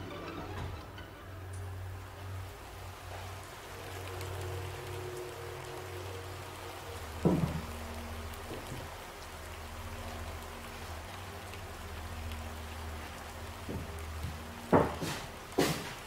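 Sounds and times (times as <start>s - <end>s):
low steady hum: 0.0s - 15.6s
rain-like hiss: 0.0s - 16.0s.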